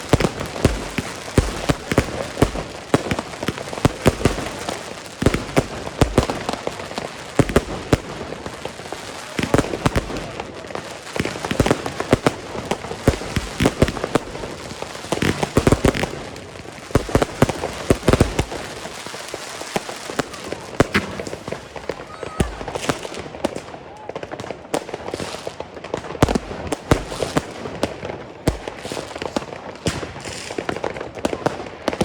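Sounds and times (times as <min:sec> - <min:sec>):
crackling firework stars: 0:00.0 - 0:32.0
fireworks bangs: 0:00.0 - 0:32.0.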